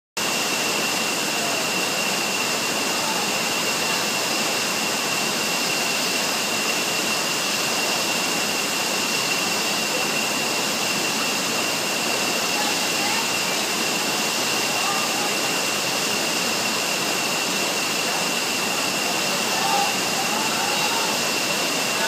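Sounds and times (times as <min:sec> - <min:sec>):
high-pitched whine: 0:00.2 - 0:22.0
waterfall rushing: 0:00.2 - 0:22.0.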